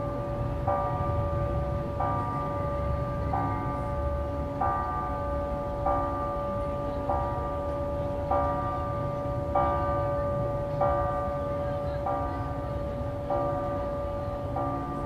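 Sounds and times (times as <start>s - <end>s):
church bell striking: 0.0s - 15.0s
church bells ringing: 0.0s - 15.0s.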